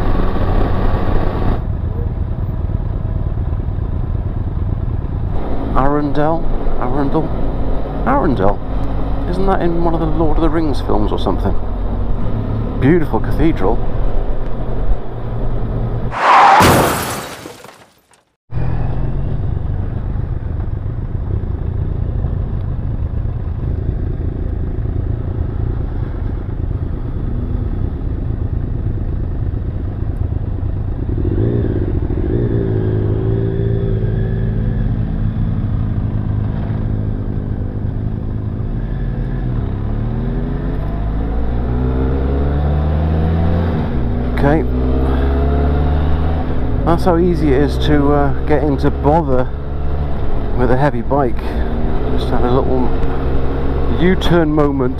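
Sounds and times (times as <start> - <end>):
motorcycle engine: 0.0 - 17.3, 18.5 - 54.9.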